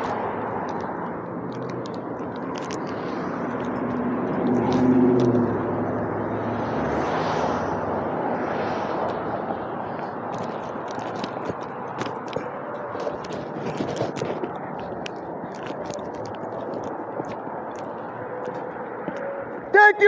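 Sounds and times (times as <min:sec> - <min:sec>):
street traffic: 0:00.0 - 0:20.0
vehicle hum: 0:00.0 - 0:20.0.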